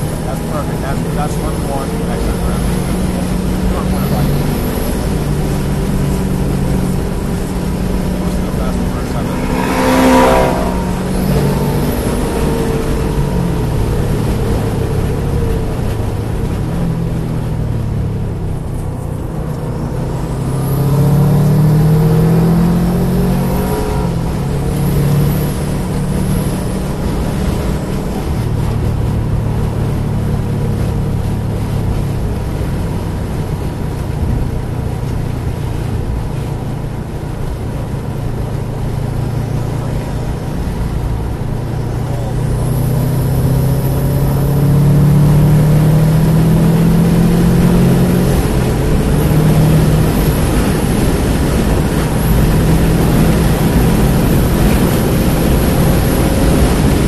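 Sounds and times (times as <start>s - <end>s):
car engine accelerating: 0.0s - 57.0s
wind noise: 0.0s - 57.0s.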